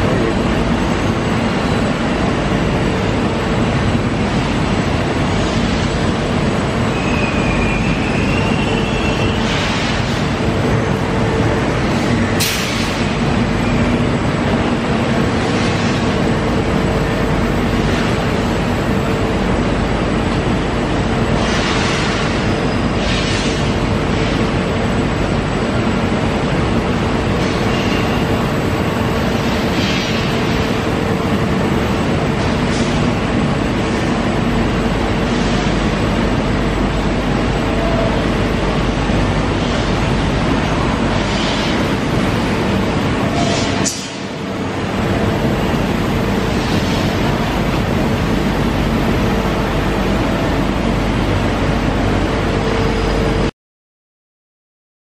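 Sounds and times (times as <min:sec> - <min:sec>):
heavy industrial machinery running: 0:00.0 - 0:53.5.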